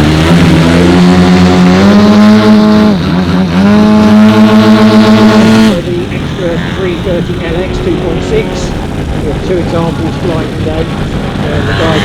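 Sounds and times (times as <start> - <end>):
model aeroplane engine: 0.0 - 12.0.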